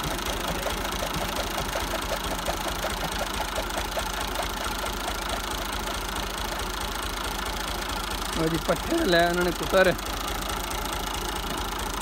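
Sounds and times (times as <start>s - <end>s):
regular mechanical ticking: 0.0s - 12.0s
tractor diesel engine idling: 0.0s - 12.0s.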